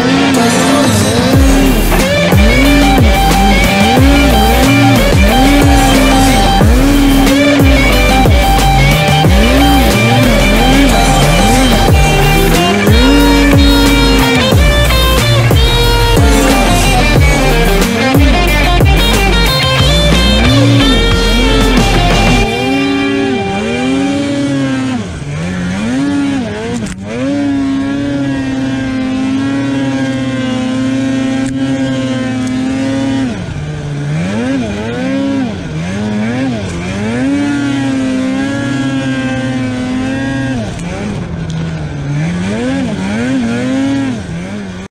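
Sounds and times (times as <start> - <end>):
snowmobile engine revving: 0.0 - 45.0.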